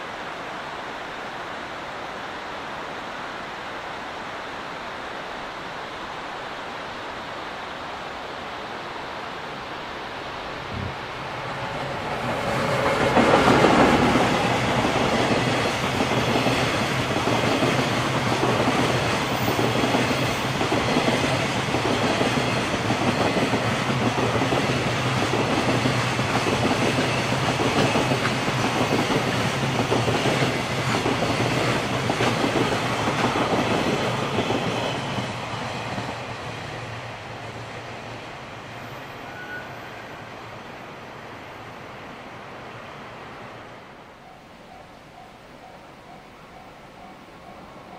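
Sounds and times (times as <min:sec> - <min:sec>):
freight train passing: 0:00.0 - 0:47.9.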